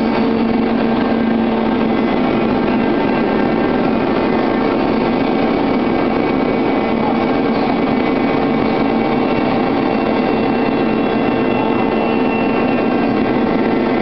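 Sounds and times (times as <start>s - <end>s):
washing machine drone and whine: 0.0s - 14.0s.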